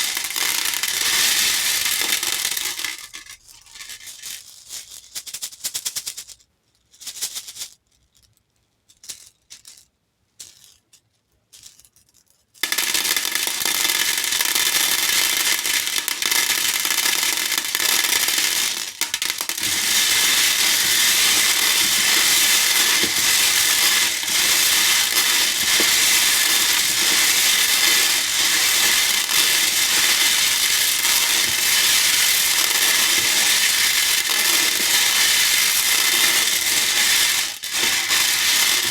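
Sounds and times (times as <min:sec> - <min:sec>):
hair beads clicking in a bowl: 0:00.0 - 0:05.3, 0:11.6 - 0:38.9.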